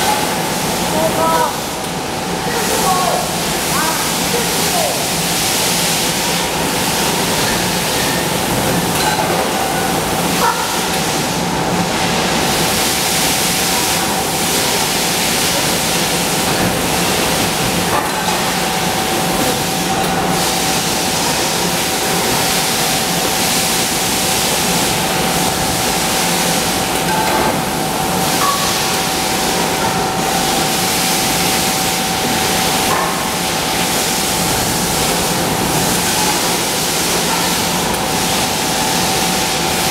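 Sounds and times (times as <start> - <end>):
machinery hiss and hum: 0.0 - 39.9.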